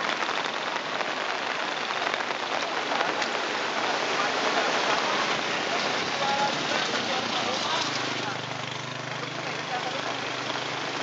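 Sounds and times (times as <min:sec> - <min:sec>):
river rushing: 0:00.0 - 0:11.0
steady rain falling: 0:00.0 - 0:11.0.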